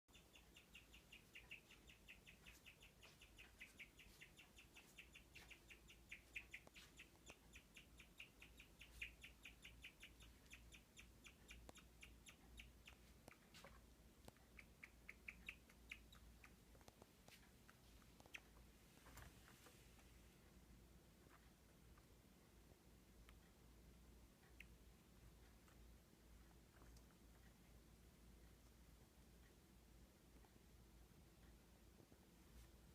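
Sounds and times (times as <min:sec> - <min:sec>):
guinea pig chirping: 0:00.1 - 0:19.6, 0:21.2 - 0:29.6.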